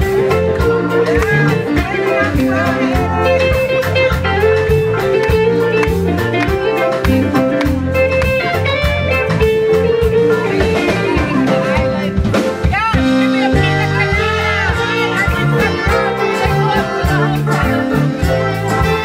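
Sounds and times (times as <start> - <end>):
live smooth jazz band: 0.0 - 19.0.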